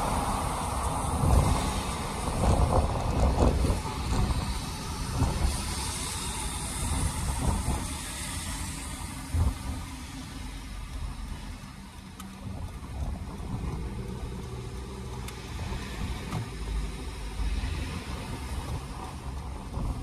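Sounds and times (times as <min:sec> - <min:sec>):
tyres rumbling on wet road: 0:00.0 - 0:20.0.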